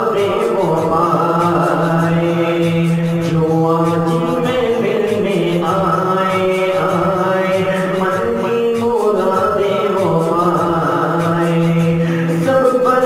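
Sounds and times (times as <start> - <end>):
person singing a chant: 0.0 - 13.0
soft rhythmic backing: 0.0 - 13.0.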